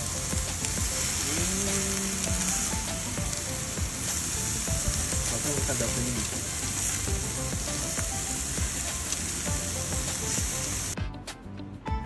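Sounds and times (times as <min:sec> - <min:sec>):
beef sizzling on a grill: 0:00.0 - 0:11.0
soft background music: 0:00.0 - 0:12.0.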